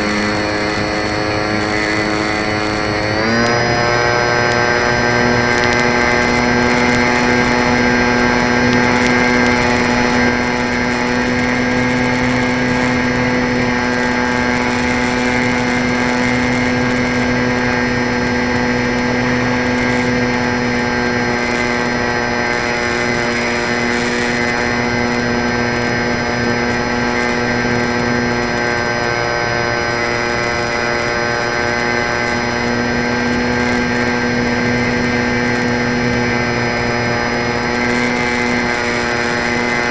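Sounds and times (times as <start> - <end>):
electric motor and propeller whine: 0.0 - 39.9
rush of noise: 0.0 - 39.9.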